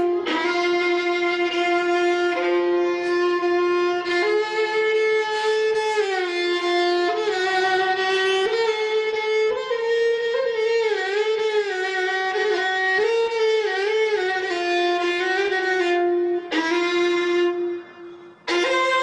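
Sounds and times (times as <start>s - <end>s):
violin slow melody: 0.0s - 19.0s.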